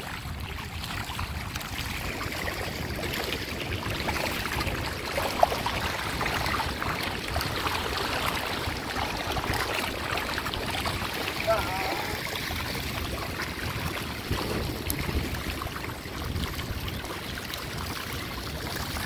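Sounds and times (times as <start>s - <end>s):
water lapping over sand: 0.0s - 19.0s
wind rumble on microphone: 0.0s - 19.0s.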